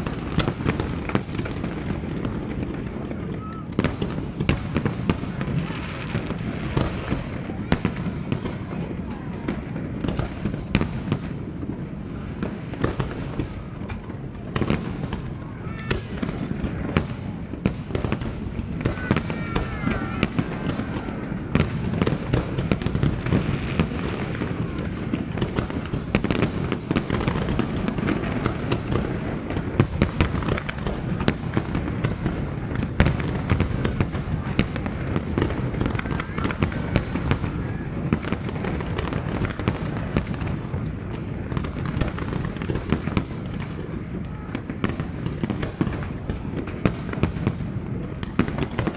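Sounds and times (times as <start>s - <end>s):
fireworks booming and banging: 0.0s - 48.9s.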